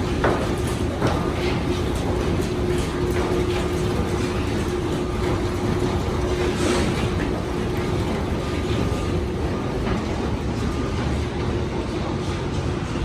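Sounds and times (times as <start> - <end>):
metallic clanks and knocks: 0.0 - 11.4
heavy diesel machinery humming: 0.0 - 12.2.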